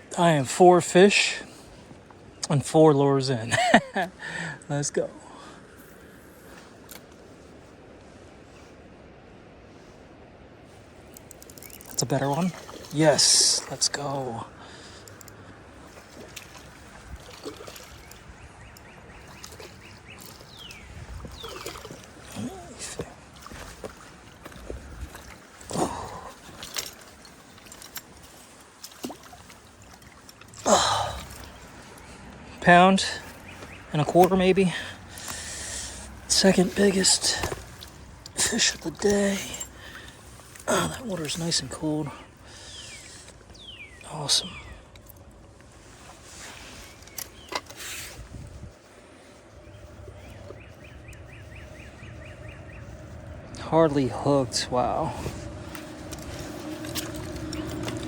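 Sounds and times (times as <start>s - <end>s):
creek water splashing and gurgling: 10.7s - 58.0s.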